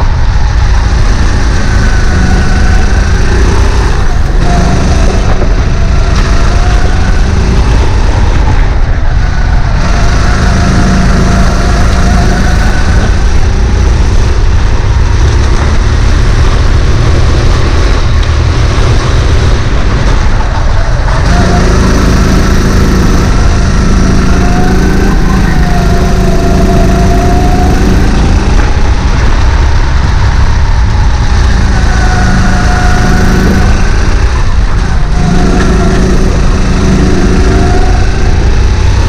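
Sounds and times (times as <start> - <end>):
heavy low rumble: 0.0 - 39.0
kart engine running hard: 0.0 - 39.0.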